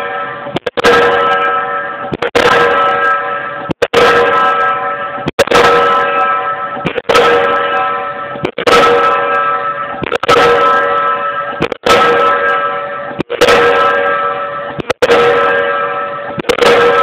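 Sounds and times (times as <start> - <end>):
pile hammer metallic strikes: 0.0 - 17.0
ringing tone: 0.0 - 17.0.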